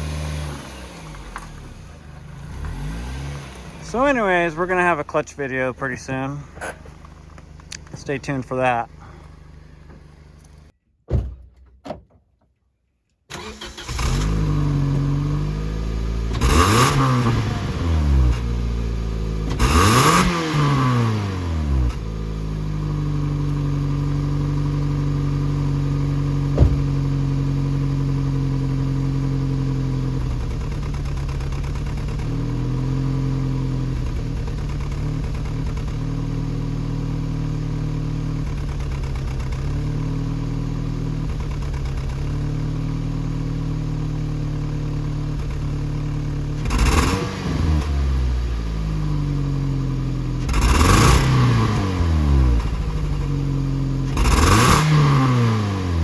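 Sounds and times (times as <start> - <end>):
car engine starting and revving: 0.0 - 10.7, 13.3 - 56.0.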